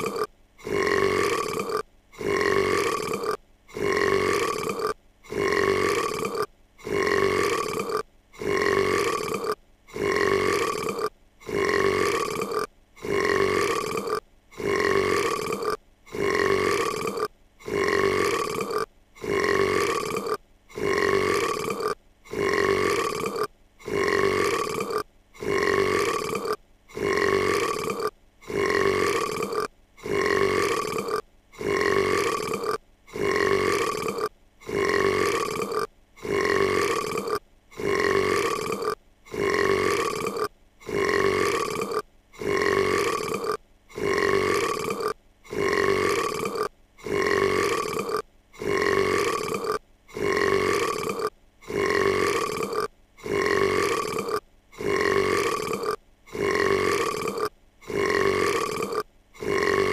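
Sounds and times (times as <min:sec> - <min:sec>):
cartoon girl burping: 0:00.0 - 0:59.9.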